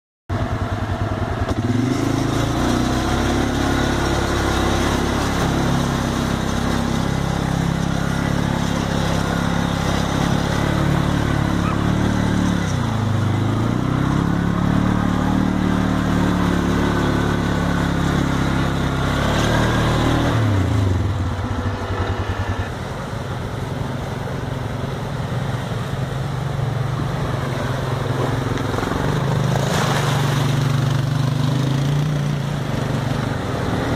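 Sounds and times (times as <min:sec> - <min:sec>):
atv engine running under load: 0:00.3 - 0:33.9.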